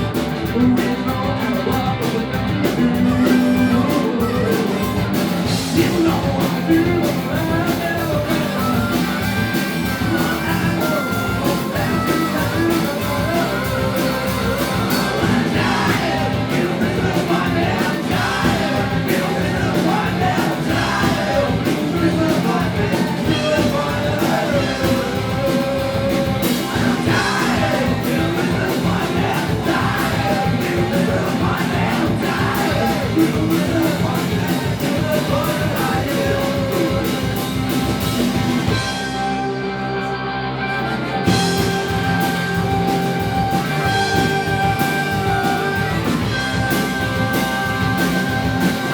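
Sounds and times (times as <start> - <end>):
drum kit: 0.0 - 39.7, 40.8 - 48.9
bass guitar: 0.0 - 48.9
electric guitar: 0.0 - 48.9
person singing: 0.0 - 48.9.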